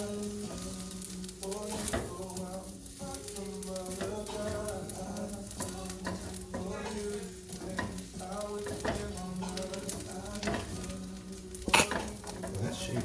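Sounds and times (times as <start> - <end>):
rice sizzling in a pan: 0.0 - 13.0
utensil scraping a pan: 0.0 - 13.0.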